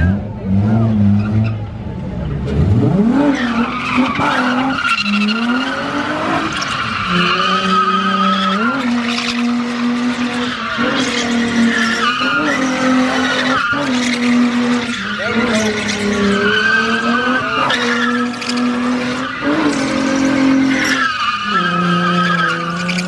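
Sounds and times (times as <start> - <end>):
car engine at high revs: 0.0 - 23.0
tyres squealing on pavement: 3.2 - 23.0.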